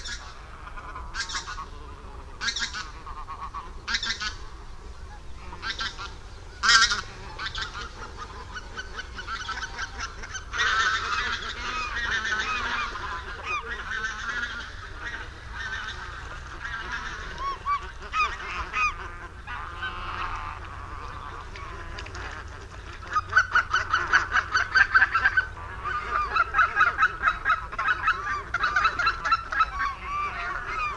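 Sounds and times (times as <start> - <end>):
geese honking: 0.0 - 30.9.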